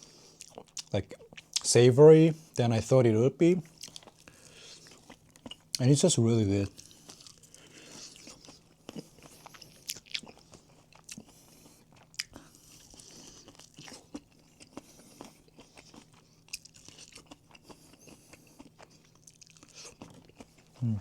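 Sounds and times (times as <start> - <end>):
crunchy chewing of fried chicken: 0.0 - 1.8, 3.4 - 21.0.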